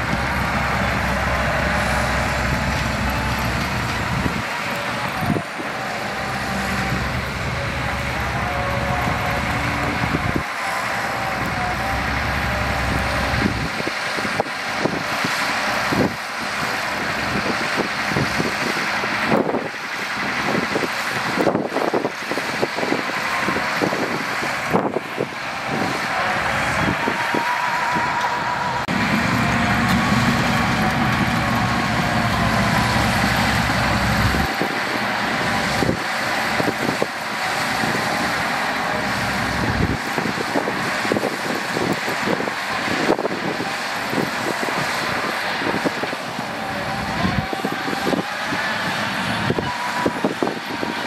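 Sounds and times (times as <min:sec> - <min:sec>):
diesel truck engine running: 0:00.0 - 0:51.0
soil load tipping: 0:00.0 - 0:51.0.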